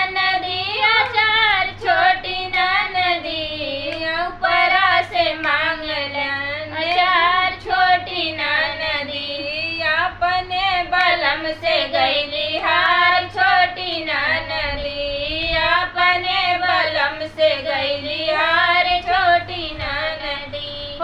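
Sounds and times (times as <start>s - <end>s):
faint low hum: 0.0s - 21.0s
women singing folk song: 0.0s - 21.0s.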